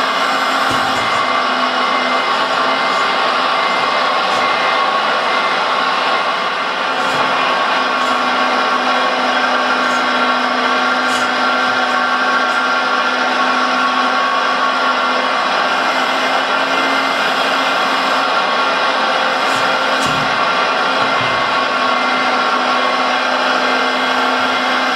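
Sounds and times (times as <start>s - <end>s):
hydraulic pump whirring: 0.0s - 24.9s.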